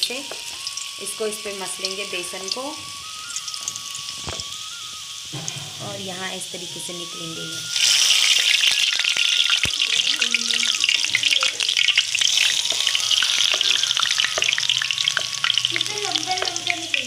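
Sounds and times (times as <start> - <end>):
dough frying in hot oil: 0.0 - 17.0.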